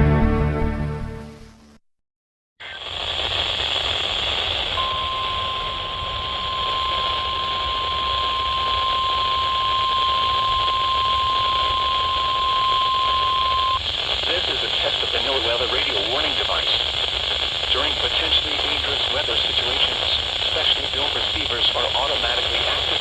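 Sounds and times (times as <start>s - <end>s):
radio static hiss: 2.6s - 23.0s.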